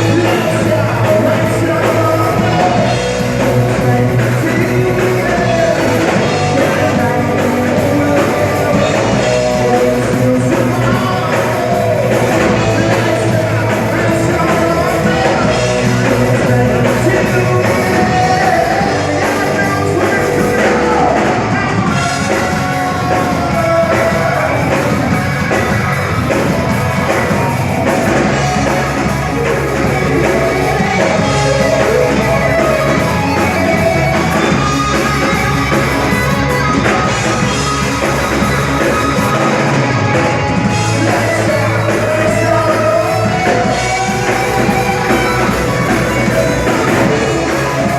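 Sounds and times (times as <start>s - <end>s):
bass: 0.0s - 47.9s
drums: 0.0s - 47.9s
electric guitar: 0.0s - 47.9s
person singing: 0.0s - 47.9s.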